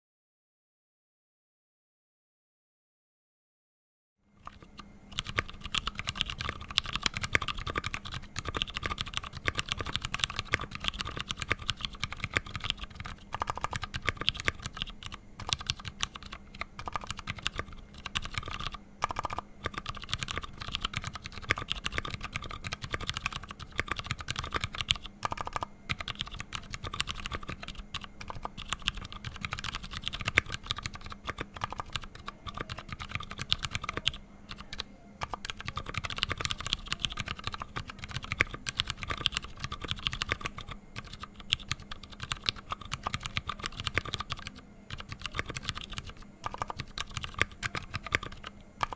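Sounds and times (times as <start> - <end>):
mechanical keyboard typing: 4.4 - 48.9.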